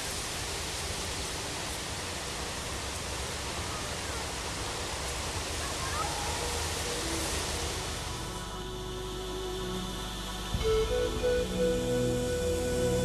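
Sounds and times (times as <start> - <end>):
wind through tall grass: 0.0 - 13.0.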